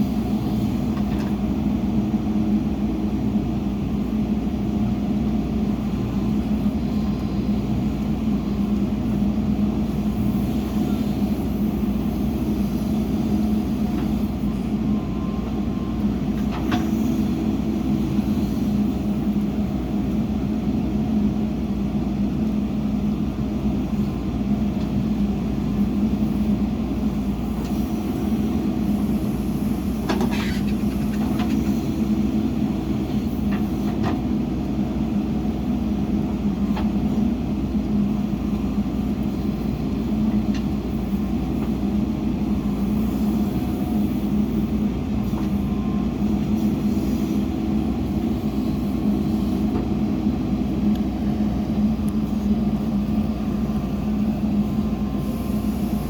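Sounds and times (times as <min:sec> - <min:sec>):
heavy diesel engine hum: 0:00.0 - 0:56.0.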